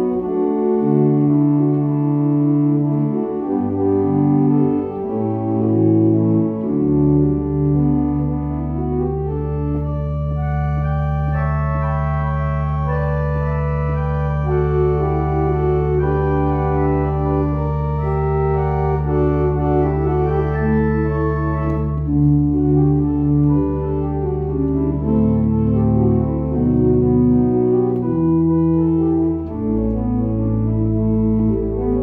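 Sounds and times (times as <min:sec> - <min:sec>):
church organ playing chords: 0:00.0 - 0:32.0.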